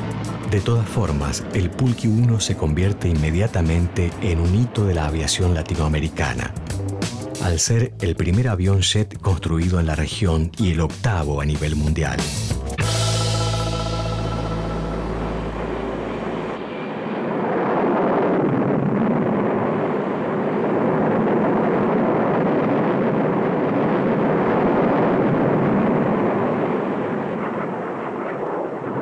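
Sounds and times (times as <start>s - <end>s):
jet engine roar: 0.0s - 7.7s, 12.2s - 29.0s.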